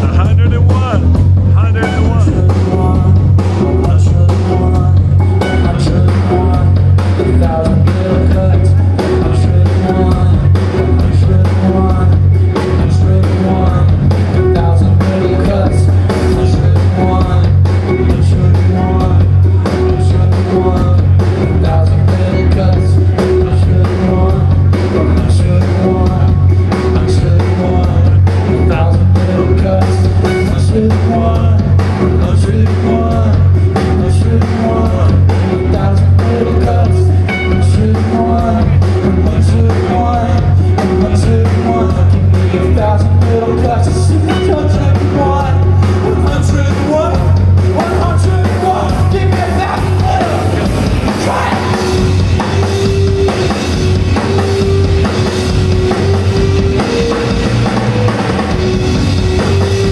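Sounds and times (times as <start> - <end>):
live rock band with singer: 0.0 - 59.9.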